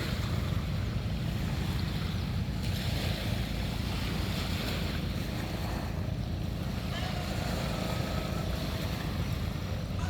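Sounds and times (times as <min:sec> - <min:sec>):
surf washing on shore: 0:00.0 - 0:10.0
wind buffeting microphone: 0:00.0 - 0:10.0.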